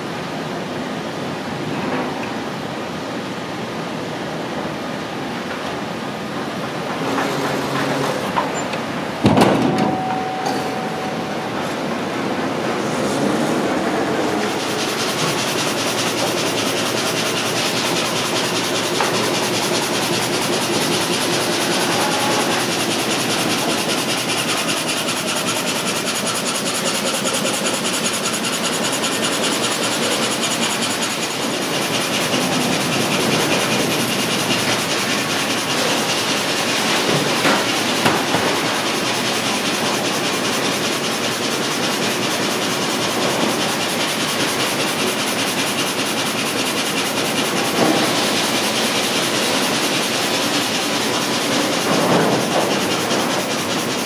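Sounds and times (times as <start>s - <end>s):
loud mechanical knocks: 6.8s - 54.0s
saw machinery clattering: 6.8s - 54.0s.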